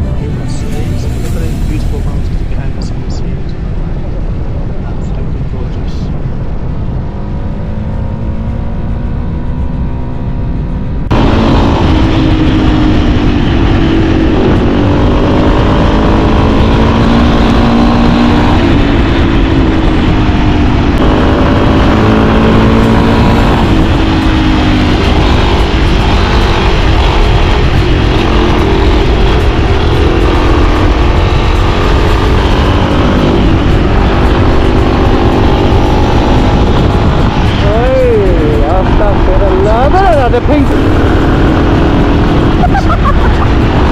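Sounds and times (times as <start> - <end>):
motorcycle engine accelerating: 0.0 - 43.9
wind rumble on microphone: 0.0 - 43.9.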